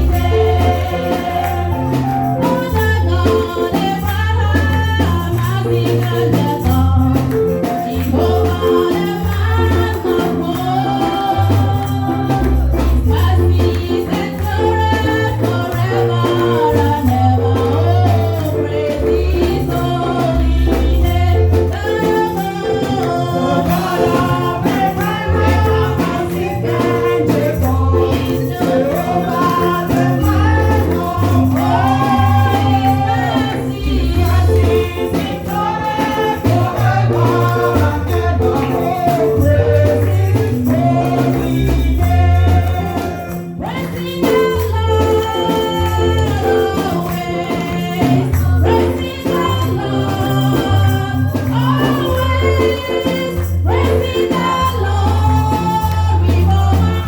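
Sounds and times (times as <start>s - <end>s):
tambourine: 0.0s - 57.0s
voices singing gospel: 0.0s - 57.0s.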